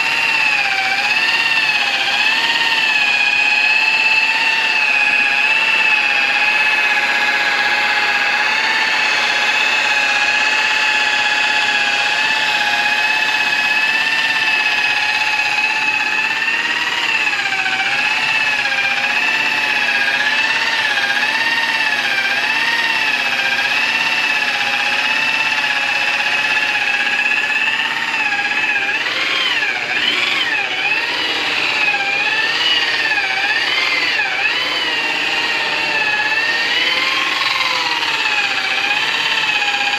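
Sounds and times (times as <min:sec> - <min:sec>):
polishing machine whining: 0:00.0 - 0:39.9.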